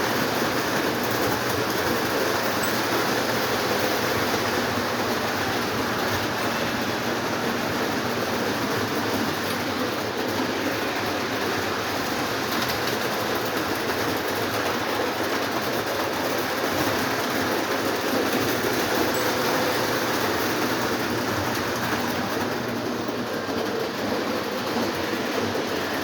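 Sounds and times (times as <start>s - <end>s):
toy train wheels rattling on rails: 0.0s - 26.0s.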